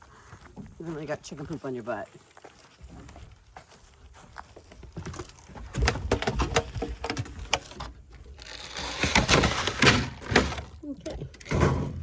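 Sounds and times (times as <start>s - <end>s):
dry feed crunching and crackling: 0.8s - 11.4s.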